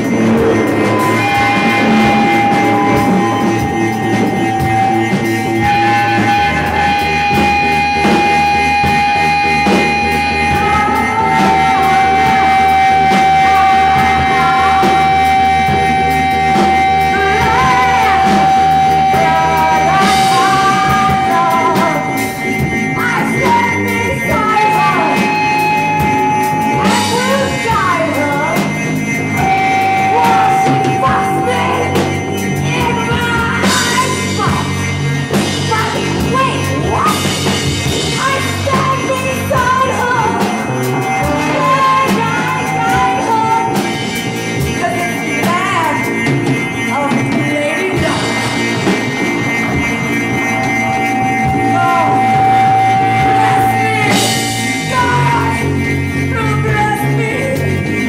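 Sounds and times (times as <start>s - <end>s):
noise rock band playing: 0.0s - 58.0s
steady high tone: 0.0s - 58.0s
yelled vocals: 0.0s - 58.0s.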